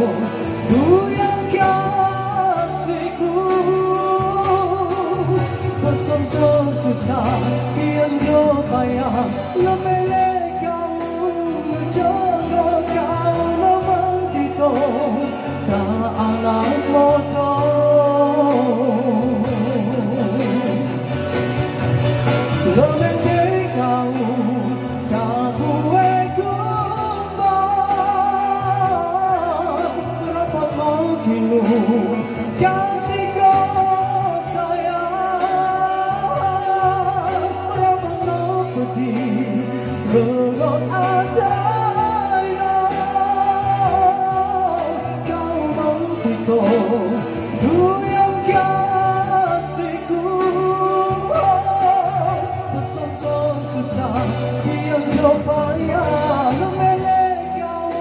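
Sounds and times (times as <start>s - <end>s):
backing music through a pa: 0.0s - 58.0s
man singing: 0.0s - 58.0s.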